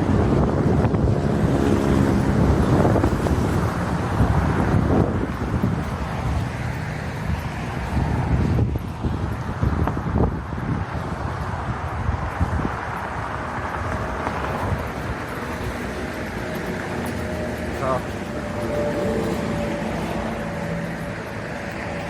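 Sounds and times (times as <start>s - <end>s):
road traffic passing: 0.0s - 22.0s
vehicle engine: 0.0s - 22.0s
wind buffeting microphone: 0.0s - 22.0s.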